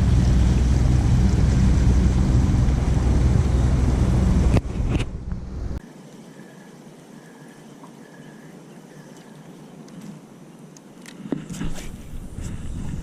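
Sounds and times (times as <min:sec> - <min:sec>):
boat motor humming: 0:00.0 - 0:11.0
water noise: 0:00.0 - 0:13.0
wind: 0:00.0 - 0:13.0.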